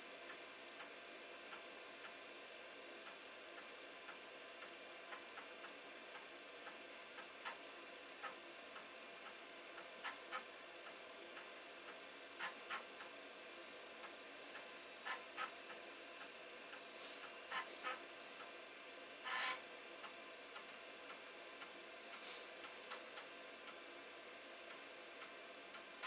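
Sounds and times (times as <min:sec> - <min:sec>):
faint steady ticking: 0:00.1 - 0:26.0.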